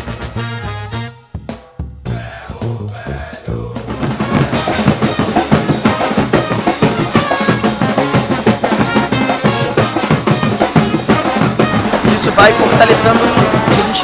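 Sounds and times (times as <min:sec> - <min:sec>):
bass drum and snare beat: 0:00.0 - 0:14.0
brass band music: 0:00.0 - 0:14.0.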